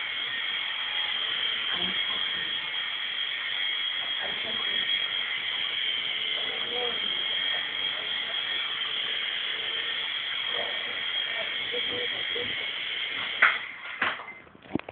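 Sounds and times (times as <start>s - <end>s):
toy helicopter motor whine: 0.0s - 14.3s.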